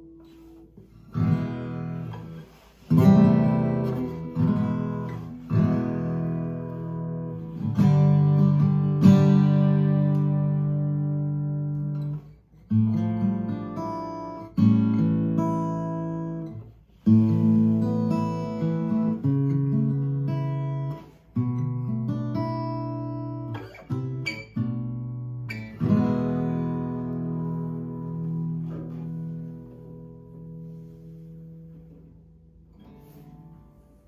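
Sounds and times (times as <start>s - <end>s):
acoustic guitar chords: 0.0s - 34.0s.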